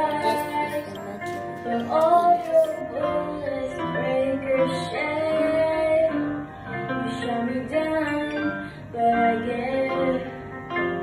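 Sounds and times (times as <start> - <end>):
person singing slow melody: 0.0 - 10.4
instrumental accompaniment: 0.0 - 11.0.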